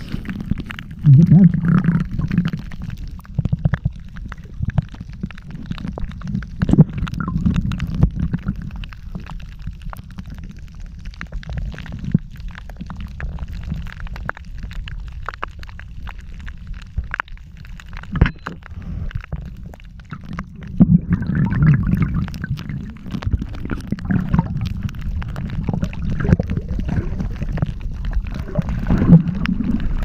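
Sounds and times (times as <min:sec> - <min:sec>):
underwater low rumble: 0:00.0 - 0:30.0
underwater sharp clicks and crackles: 0:00.0 - 0:30.0.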